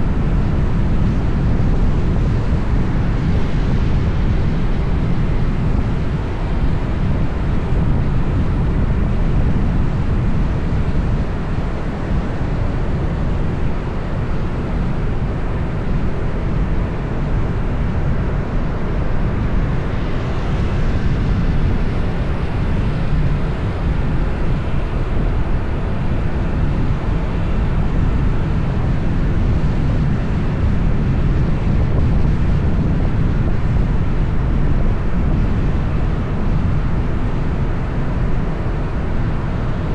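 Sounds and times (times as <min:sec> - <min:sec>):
road traffic rumble: 0:00.0 - 0:39.9
wind on microphone: 0:00.0 - 0:39.9.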